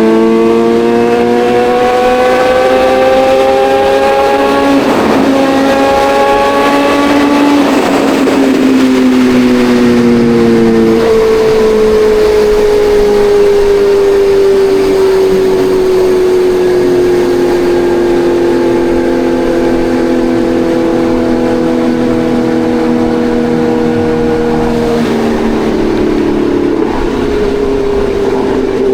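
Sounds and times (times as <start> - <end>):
motorcycle engine running: 0.0 - 28.9
wind and road noise: 0.0 - 28.9.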